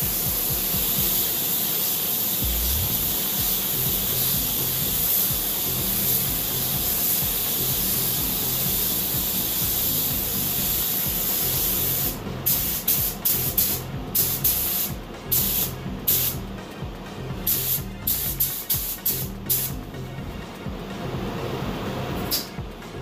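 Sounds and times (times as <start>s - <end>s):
paint spray gun hissing: 0.0s - 16.4s, 17.4s - 19.8s, 22.3s - 22.6s.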